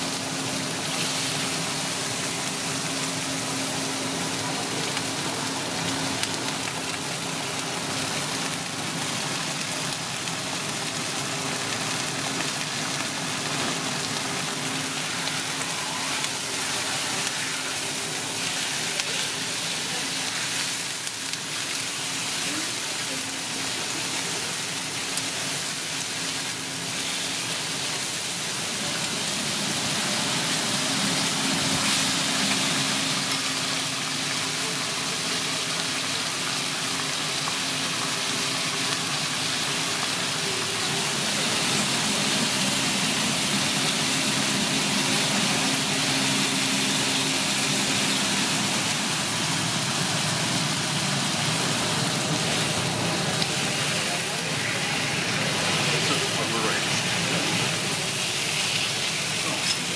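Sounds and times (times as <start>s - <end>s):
food sizzling on a griddle: 0.0s - 59.9s.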